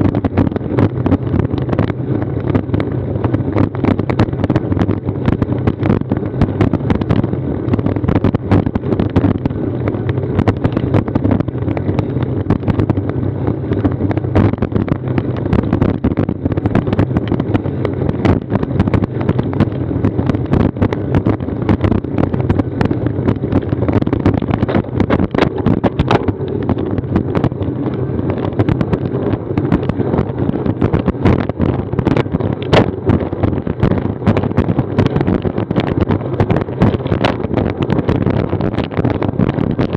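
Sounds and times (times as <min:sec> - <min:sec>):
road rumble: 0:00.0 - 0:39.9
wind rushing over microphone: 0:00.0 - 0:39.9.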